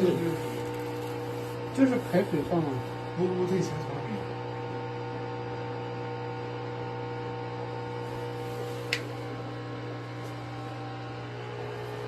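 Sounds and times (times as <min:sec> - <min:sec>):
drain pump humming: 0:00.0 - 0:12.0.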